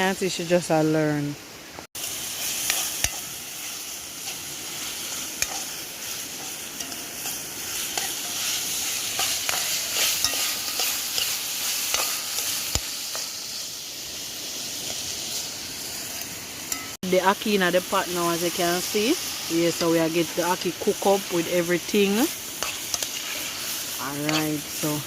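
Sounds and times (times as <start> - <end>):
fish frying in hot oil: 1.9 - 25.0.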